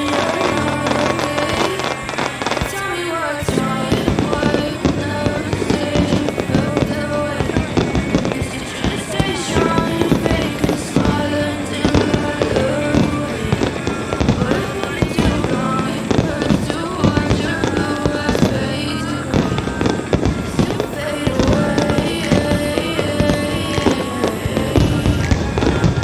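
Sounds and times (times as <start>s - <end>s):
fireworks bursting: 0.0s - 26.0s
music playing: 0.0s - 26.0s.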